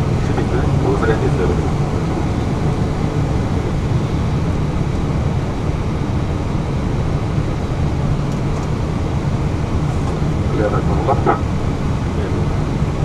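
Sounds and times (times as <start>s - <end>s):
jet engines idling rumble: 0.0s - 13.0s.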